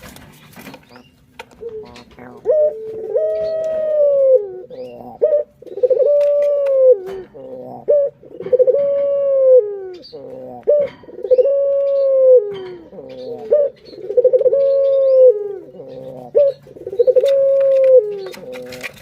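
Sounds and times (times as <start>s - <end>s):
dove cooing: 1.0s - 19.0s.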